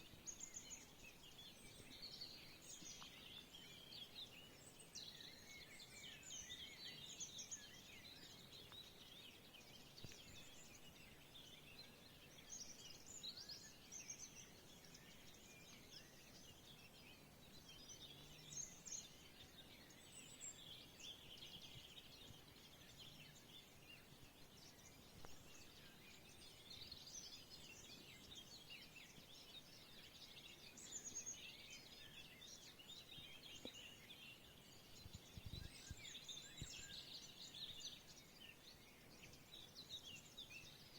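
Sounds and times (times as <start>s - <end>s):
small birds chirping and trilling: 0.0s - 40.9s.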